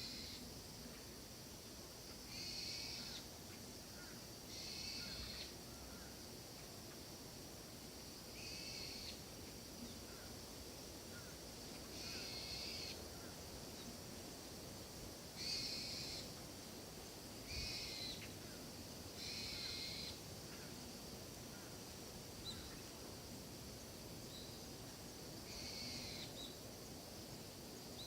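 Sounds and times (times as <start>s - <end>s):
faint background hiss: 0.0s - 28.0s.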